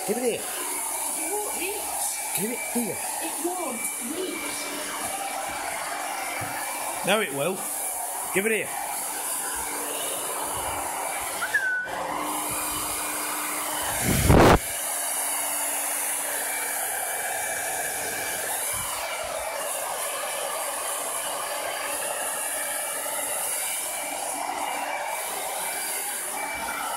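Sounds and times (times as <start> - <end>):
hair dryer blowing: 0.0 - 26.9.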